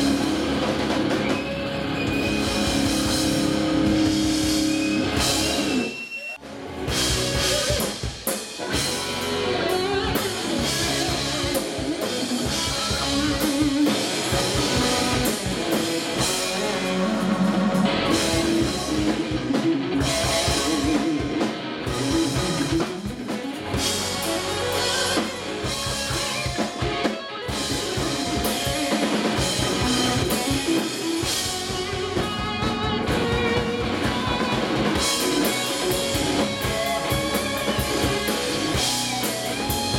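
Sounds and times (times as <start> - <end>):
drum kit: 0.0 - 39.9
electric guitars: 0.0 - 39.9
keyboard: 0.0 - 39.9.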